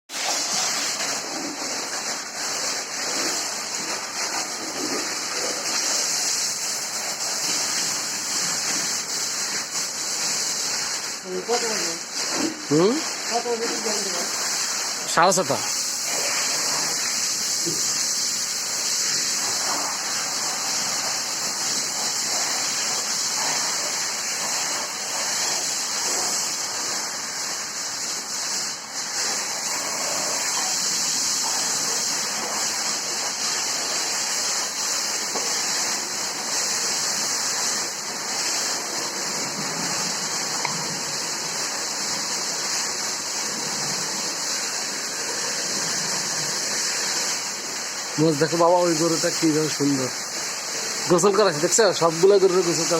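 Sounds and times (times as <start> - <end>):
running water hiss: 0.1 - 52.9.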